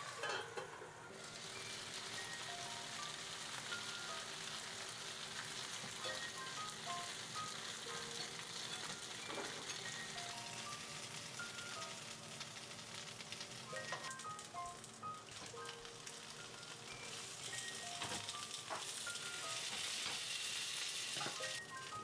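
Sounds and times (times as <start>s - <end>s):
dumplings sizzling in a frying pan: 0.0s - 22.0s.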